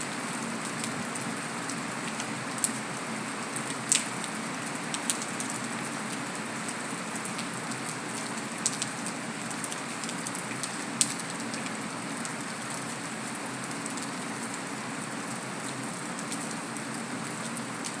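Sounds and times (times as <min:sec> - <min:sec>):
heavy rain on concrete: 0:00.0 - 0:18.0.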